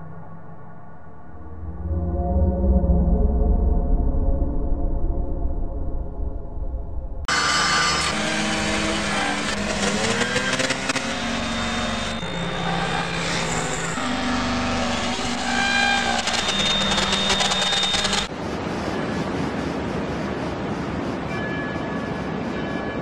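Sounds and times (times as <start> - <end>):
distorted droning tones: 0.0 - 20.7.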